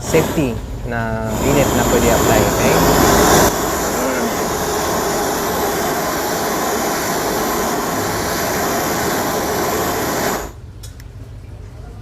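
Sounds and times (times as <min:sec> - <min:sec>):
gas torch flame hissing: 0:00.0 - 0:10.6.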